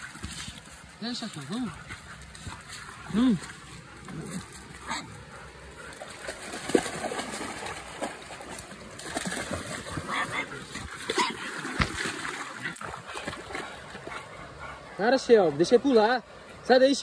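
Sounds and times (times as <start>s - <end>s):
dogs splashing in water: 0.0s - 16.1s.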